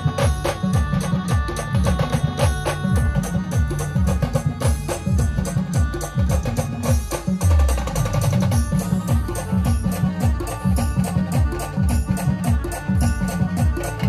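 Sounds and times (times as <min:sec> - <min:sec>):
fast dense drumming: 0:00.0 - 0:14.0
sustained melody: 0:00.0 - 0:14.0.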